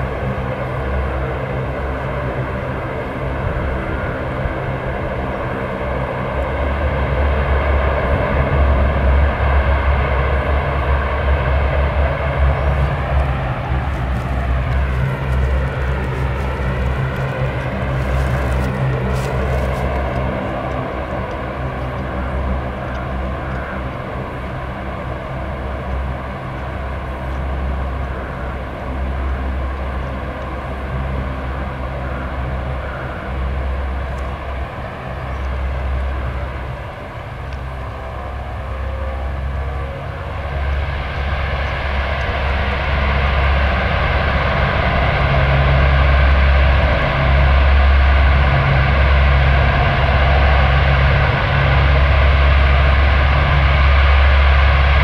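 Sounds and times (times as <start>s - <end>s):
low engine rumble: 0.0s - 55.0s
propeller drone: 0.0s - 55.0s.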